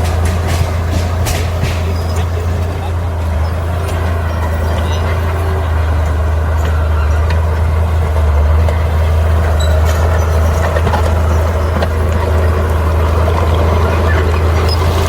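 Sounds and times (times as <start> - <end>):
bulldozer diesel engine droning: 0.0 - 15.0.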